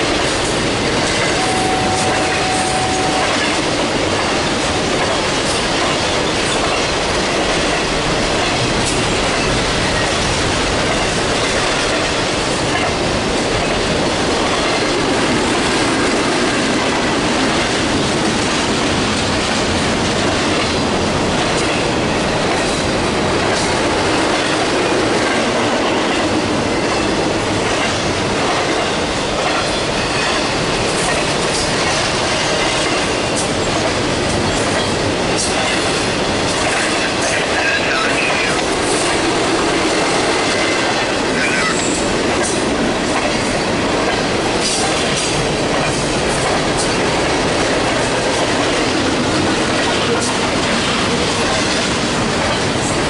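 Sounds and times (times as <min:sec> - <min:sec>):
steel wheels rumbling on rail: 0:00.0 - 0:53.0.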